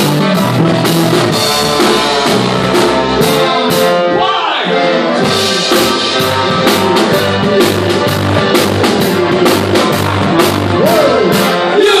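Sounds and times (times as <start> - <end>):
drum kit beat: 0.0 - 12.0
electric bass: 0.0 - 12.0.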